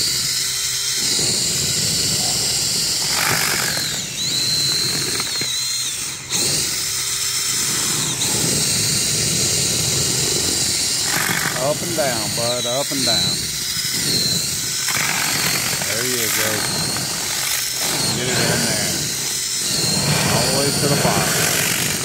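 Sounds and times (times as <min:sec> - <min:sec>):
grinding churn of corn kernels: 0:00.0 - 0:22.0
power drill motor whining: 0:00.0 - 0:22.0.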